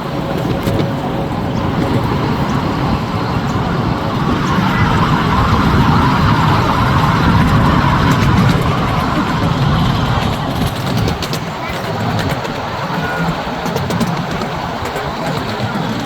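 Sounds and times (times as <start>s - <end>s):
miniature train rumbling and rattling: 0.0s - 16.0s.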